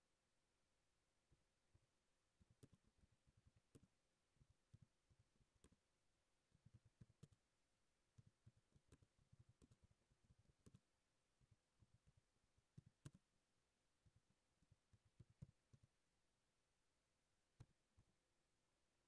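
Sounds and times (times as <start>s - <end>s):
faint keyboard typing: 1.3s - 16.1s, 17.5s - 18.2s.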